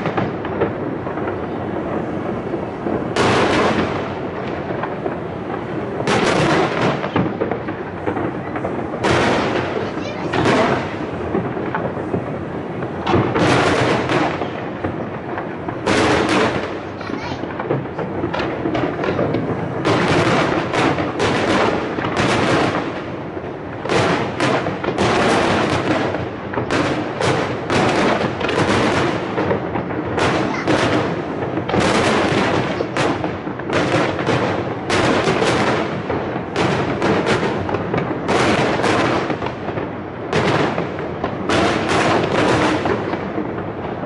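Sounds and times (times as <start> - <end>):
continuous rumble: 0.0 - 44.0
fireworks bursting: 0.0 - 44.0.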